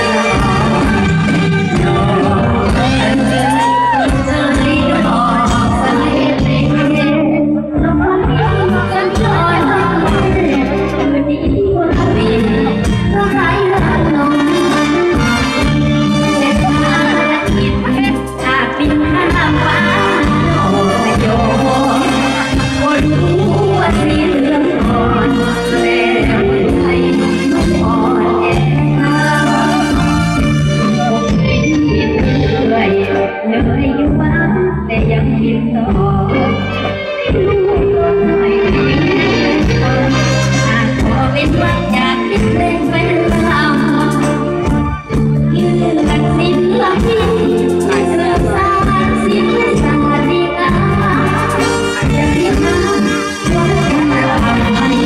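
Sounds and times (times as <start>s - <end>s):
live band music over loudspeakers: 0.0s - 55.0s
woman singing into a microphone: 0.0s - 55.0s.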